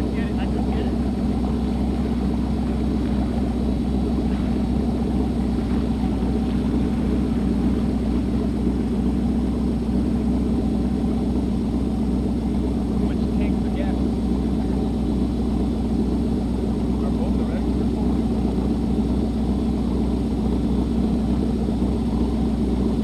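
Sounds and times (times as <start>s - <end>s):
motorboat engine running: 0.0s - 23.0s
water churning: 0.0s - 23.0s.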